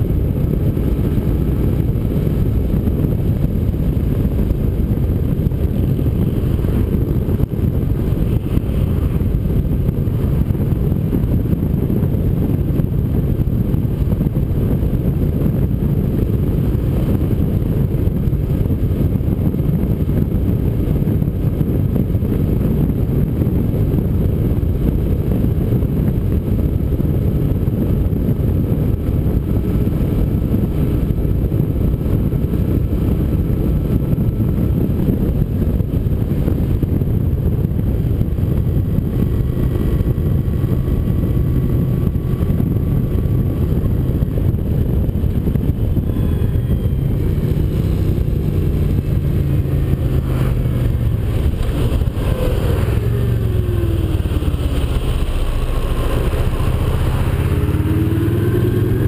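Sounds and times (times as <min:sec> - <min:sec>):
motorcycle engine rumble: 0:00.0 - 0:59.0
wind rush on microphone: 0:00.0 - 0:59.0.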